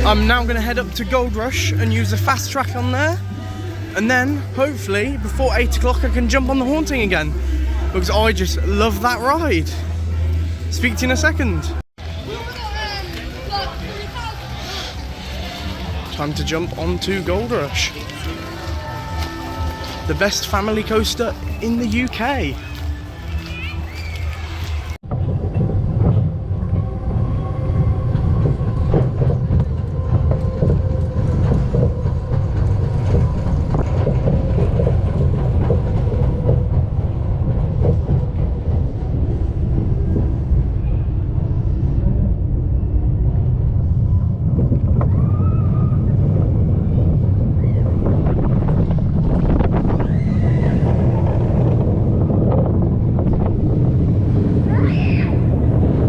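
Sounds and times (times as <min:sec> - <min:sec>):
roller coaster wheels rumbling: 0:00.0 - 0:56.0.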